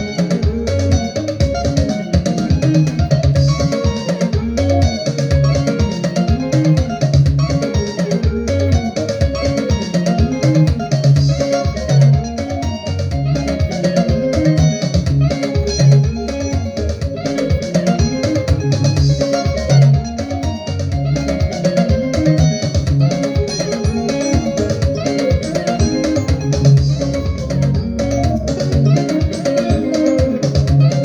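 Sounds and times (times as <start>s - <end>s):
instrumental gospel music: 0.0s - 31.0s.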